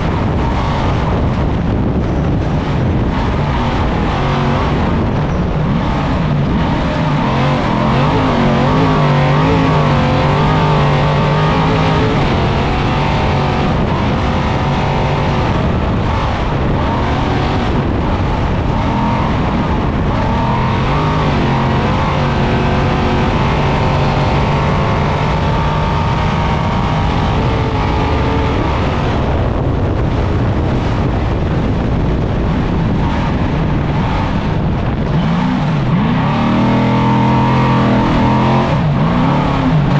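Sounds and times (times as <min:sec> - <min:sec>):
truck engine revving: 0:00.0 - 0:39.9
tyres rumbling over rough ground: 0:00.0 - 0:39.9.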